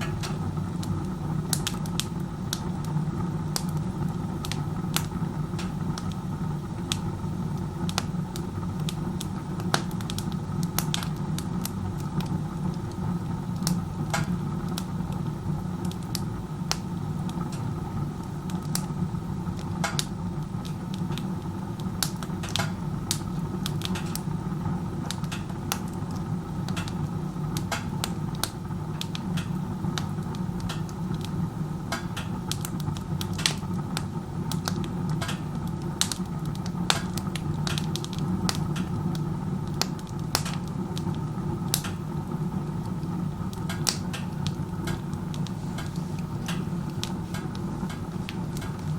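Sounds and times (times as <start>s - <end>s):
burning wood crackling and popping: 0.0s - 48.9s.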